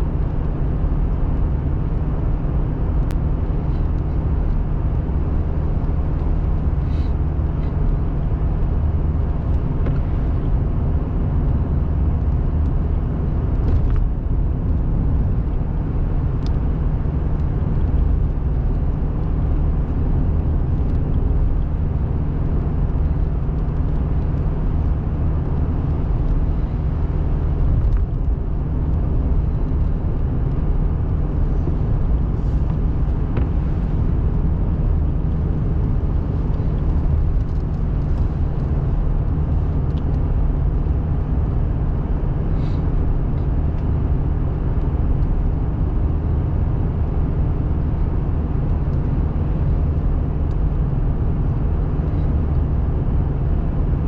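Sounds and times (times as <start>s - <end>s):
car road noise: 0.0s - 54.0s.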